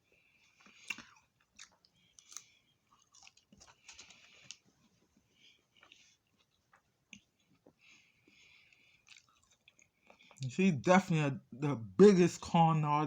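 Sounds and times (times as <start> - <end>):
faint chewing of fried food: 0.0 - 10.5.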